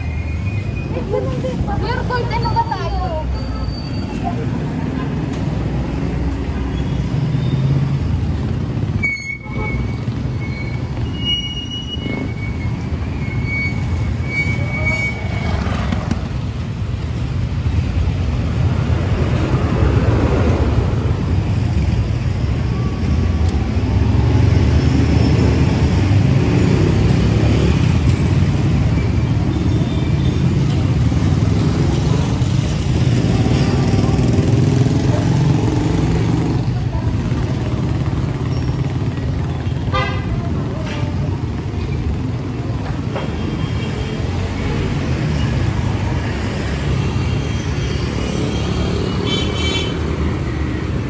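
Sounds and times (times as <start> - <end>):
motorcycle engines passing: 0.0 - 51.0.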